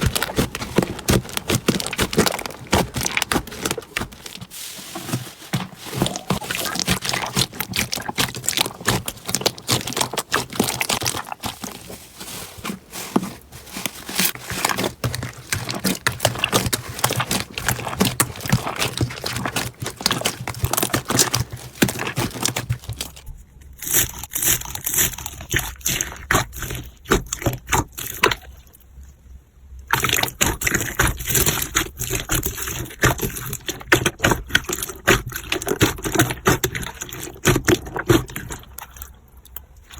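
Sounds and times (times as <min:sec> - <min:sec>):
slime squelching and crackling: 0:00.0 - 0:28.8, 0:29.8 - 0:39.9.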